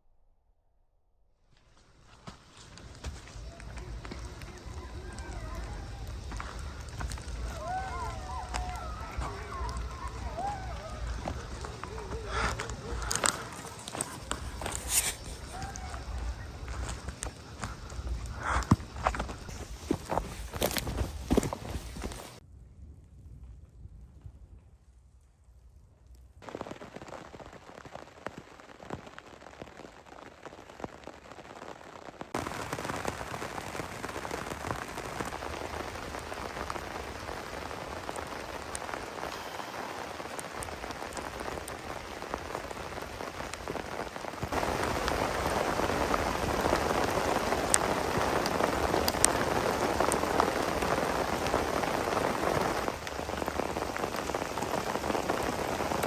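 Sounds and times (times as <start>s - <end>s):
heavy rain falling: 2.0s - 22.4s, 26.4s - 56.0s.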